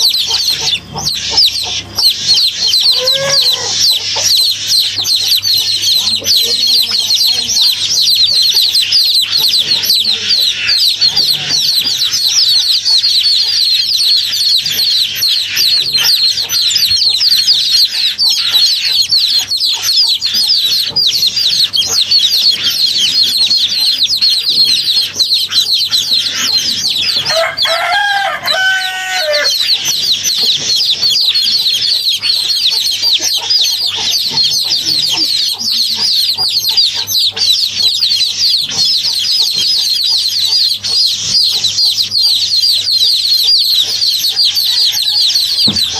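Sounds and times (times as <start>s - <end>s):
flock of birds chirping: 0.0s - 45.9s.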